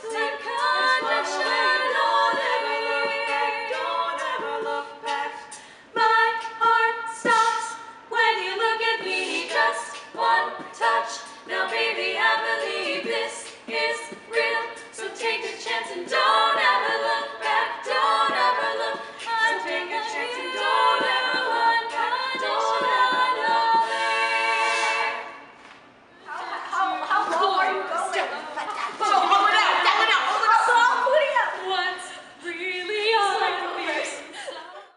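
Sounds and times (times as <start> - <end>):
women singing in harmony: 0.0 - 25.6, 26.2 - 34.9.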